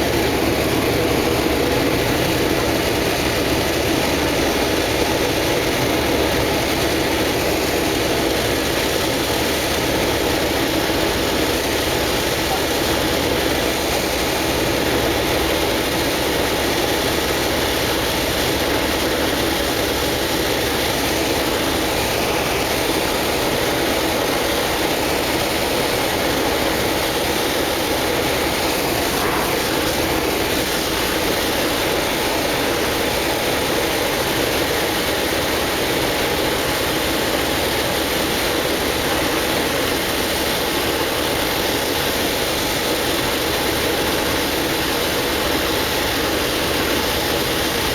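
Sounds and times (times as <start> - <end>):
propeller aircraft engine drone: 0.0 - 47.9.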